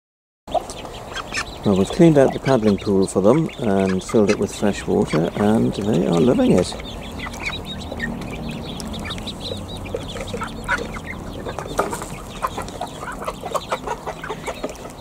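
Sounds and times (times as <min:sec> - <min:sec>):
ducklings peeping: 0:00.5 - 0:15.0.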